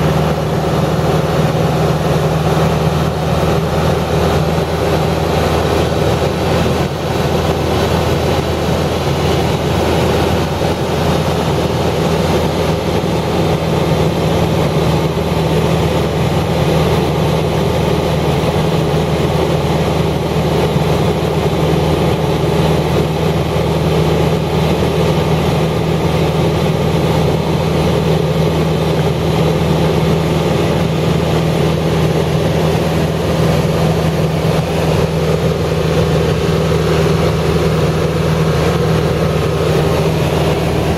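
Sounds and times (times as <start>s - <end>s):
engine hum: 0.0s - 40.9s.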